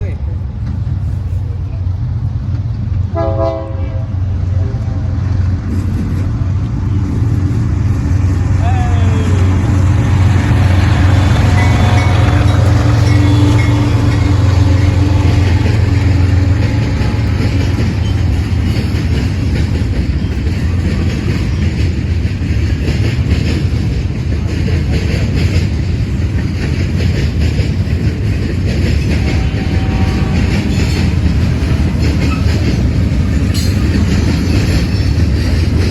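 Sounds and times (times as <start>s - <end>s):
diesel locomotive engine drone: 0.0s - 35.9s
train wheels clattering on rails: 0.4s - 35.9s.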